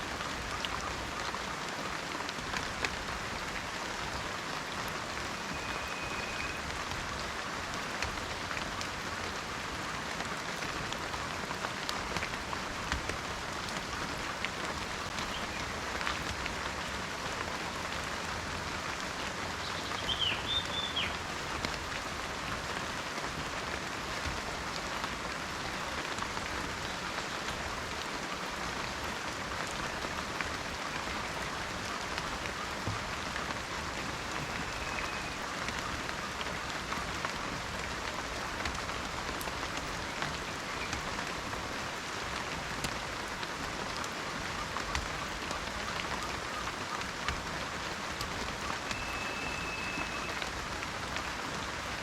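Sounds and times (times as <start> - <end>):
rain pattering in forest: 0.0 - 52.0.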